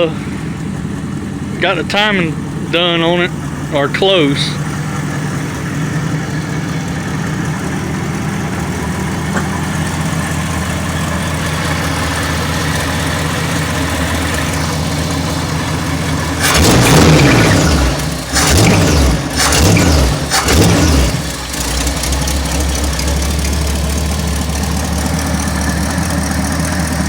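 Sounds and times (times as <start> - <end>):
truck engine idling and revving: 0.0 - 27.0.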